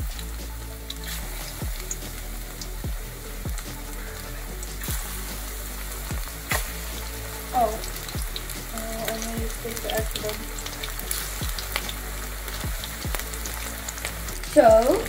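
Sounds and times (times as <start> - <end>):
fish deep-frying in oil: 0.0 - 15.0.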